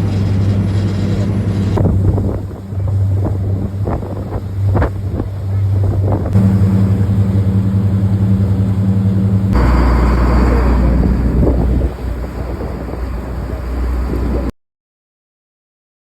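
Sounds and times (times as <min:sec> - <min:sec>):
boat engine humming: 0:00.0 - 0:14.5.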